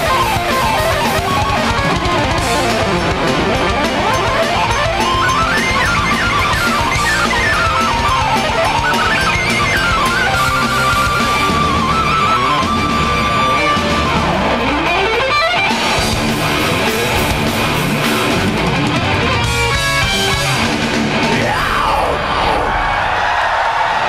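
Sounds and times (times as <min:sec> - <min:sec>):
guitar lead line sliding in pitch: 0:00.0 - 0:22.2
metal band playing live: 0:00.0 - 0:23.4.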